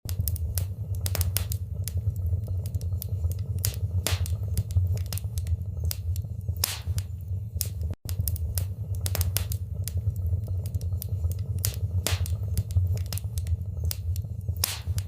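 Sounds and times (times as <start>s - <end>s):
fire crackling and popping: 0.0s - 15.0s
low rumble of flames: 0.1s - 15.0s.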